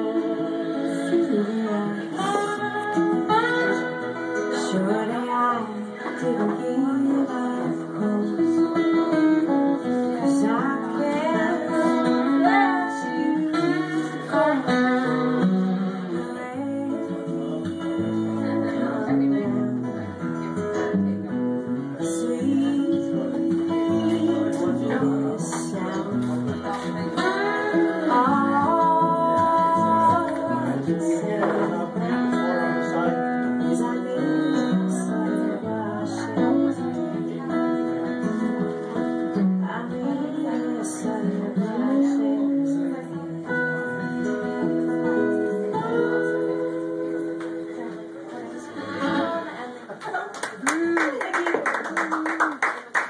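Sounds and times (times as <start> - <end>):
woman singing into a microphone: 0.0 - 49.7
acoustic guitars strummed and picked: 0.0 - 50.8.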